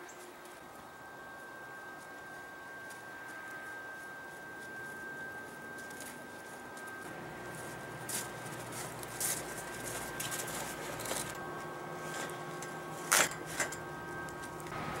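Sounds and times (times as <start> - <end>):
faint hum: 0.0 - 15.0
footsteps in snow: 0.1 - 13.0.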